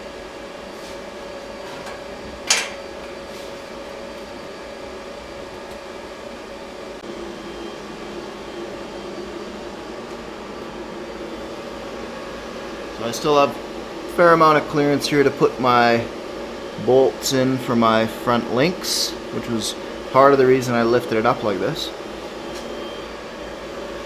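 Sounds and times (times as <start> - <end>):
workshop equipment humming: 0.0 - 24.0.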